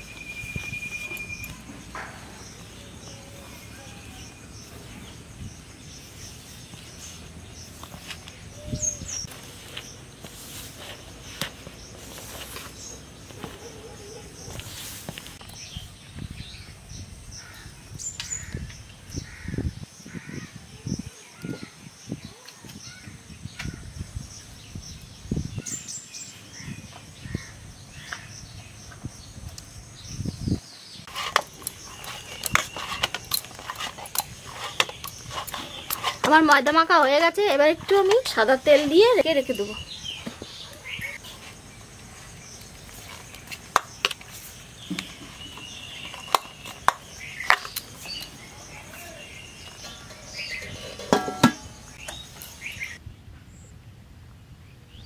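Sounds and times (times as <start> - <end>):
birds chirping: 0.0 - 53.8.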